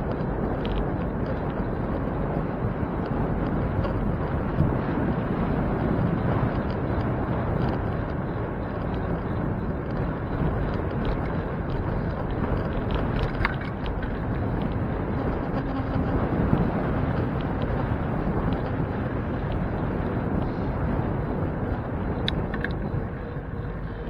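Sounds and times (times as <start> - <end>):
road rumble: 0.0 - 24.0
wind rushing over microphone: 0.0 - 24.0.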